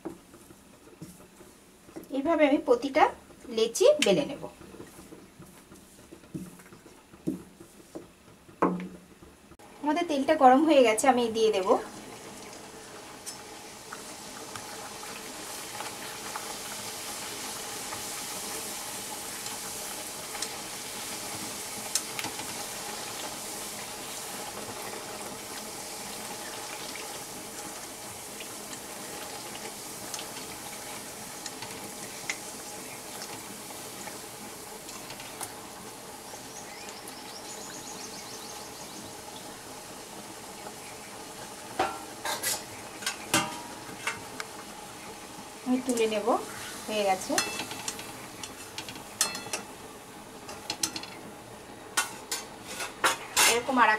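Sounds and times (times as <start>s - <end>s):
oil sizzling in a wok: 0.0s - 53.9s.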